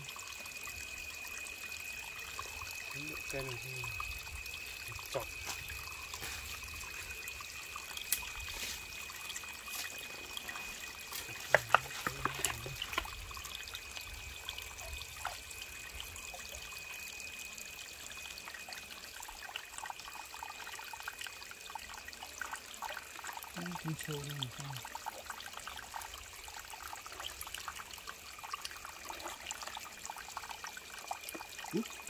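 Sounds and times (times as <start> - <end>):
water trickling over rocks: 0.0 - 32.0.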